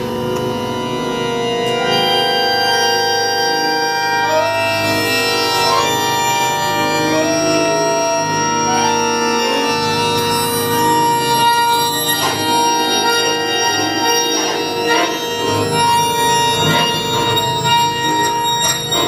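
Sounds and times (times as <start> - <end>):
accordion playing chords: 0.0 - 19.0.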